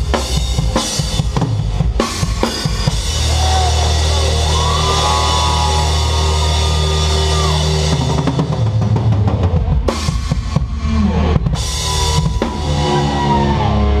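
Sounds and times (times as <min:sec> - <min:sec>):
drumming: 0:00.0 - 0:13.5.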